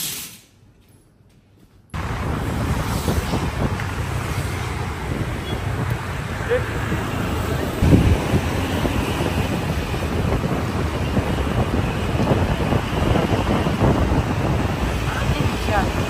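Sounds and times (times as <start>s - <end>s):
traffic and motor scooters: 2.0s - 16.0s
wind buffeting microphone: 2.0s - 16.0s.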